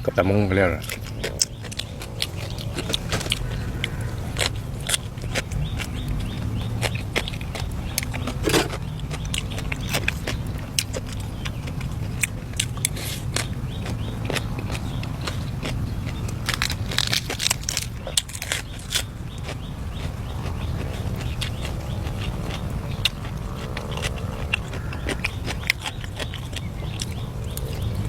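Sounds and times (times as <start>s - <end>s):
steady low rumble: 0.0s - 28.0s
chewing and biting: 0.7s - 28.0s.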